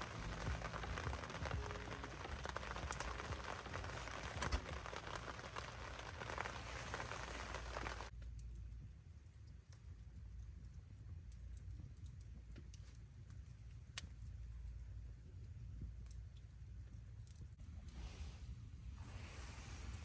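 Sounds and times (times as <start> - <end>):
campfire crackling: 0.0 - 19.9
faint low rumble: 0.0 - 20.0
fire popping: 0.0 - 20.0.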